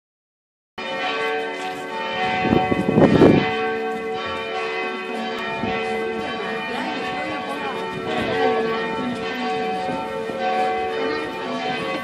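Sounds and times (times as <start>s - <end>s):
church bells ringing: 0.8s - 12.0s.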